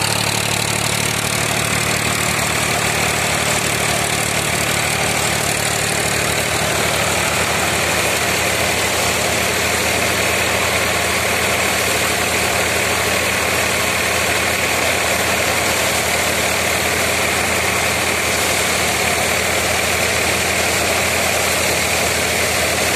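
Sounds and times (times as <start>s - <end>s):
tractor engine: 0.0s - 22.9s.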